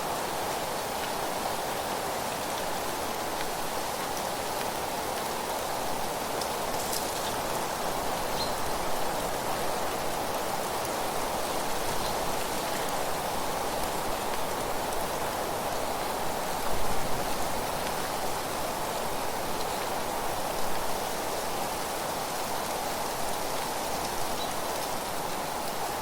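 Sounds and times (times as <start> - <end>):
rain-like rushing noise: 0.0 - 26.0.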